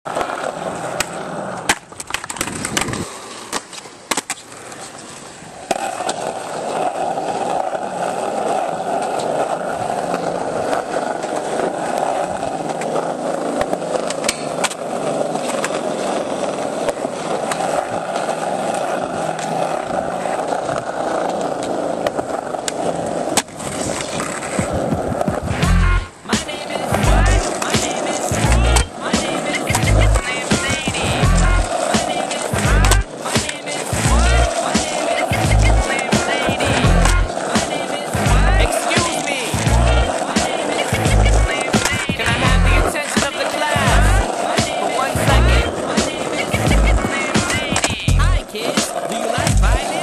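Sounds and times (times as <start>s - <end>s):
skateboard wheels rolling on concrete: 0.0s - 50.0s
skateboard clacking on ground: 0.1s - 50.0s.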